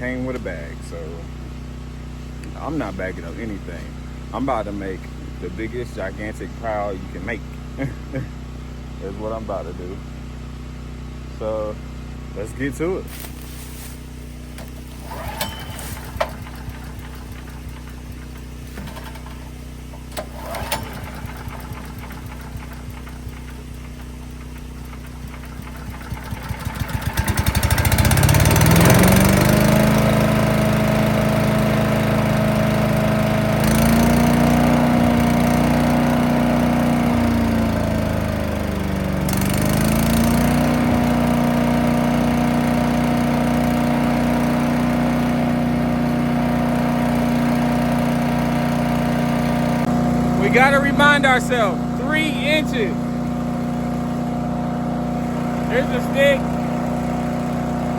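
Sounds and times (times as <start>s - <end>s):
small gas engine starting and running: 0.0s - 57.9s.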